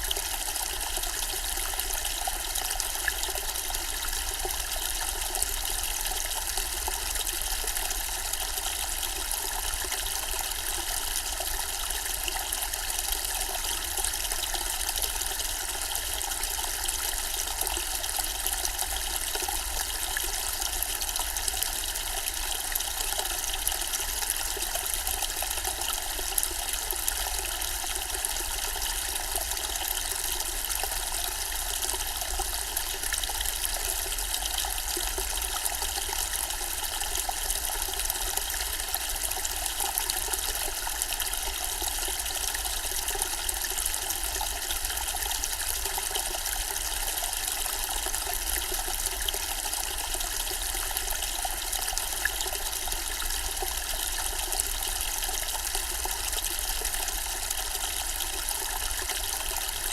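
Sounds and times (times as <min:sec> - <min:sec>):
water trickling in fountain: 0:00.0 - 0:59.9.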